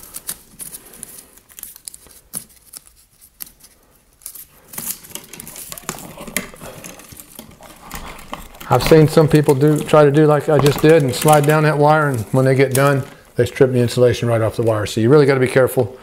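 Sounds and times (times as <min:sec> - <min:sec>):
blade slitting plastic sheathing: 0:00.0 - 0:13.5
rustling and tearing: 0:00.0 - 0:14.7.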